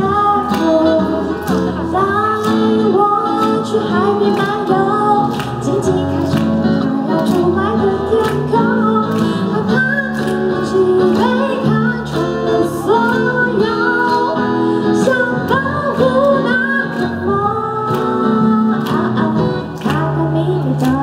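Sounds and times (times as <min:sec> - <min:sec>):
acoustic guitar: 0:00.0 - 0:21.0
woman singing: 0:00.0 - 0:21.0.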